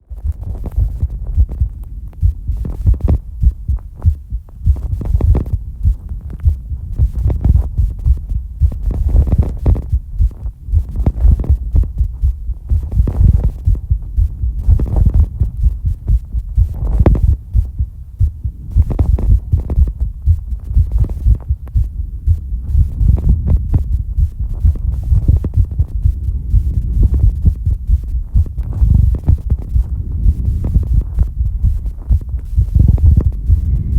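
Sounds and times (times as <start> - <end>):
fast heartbeat thumps: 0.0 - 33.9.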